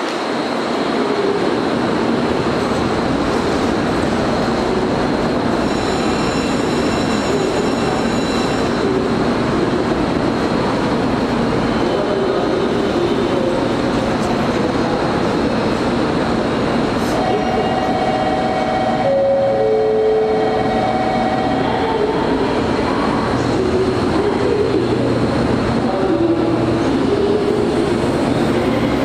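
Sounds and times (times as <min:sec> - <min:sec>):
electric trains rumbling: 0:00.0 - 0:29.0.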